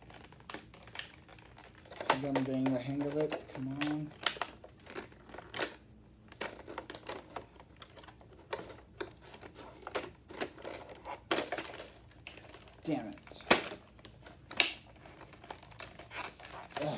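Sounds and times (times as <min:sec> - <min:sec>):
packaging clicks and scrapes: 0:00.0 - 0:16.9.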